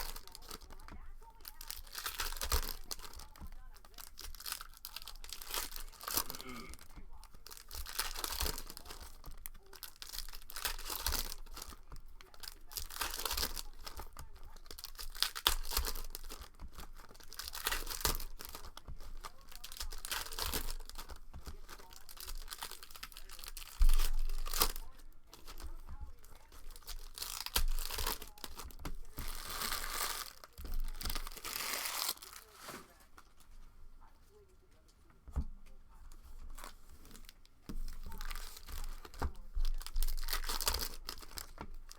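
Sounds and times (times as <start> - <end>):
plastic wrapping tearing and crinkling: 0.0 - 33.5, 36.1 - 41.9.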